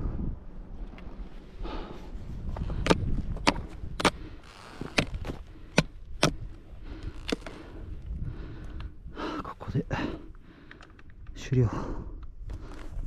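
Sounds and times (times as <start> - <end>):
low wind rumble: 0.0 - 13.0.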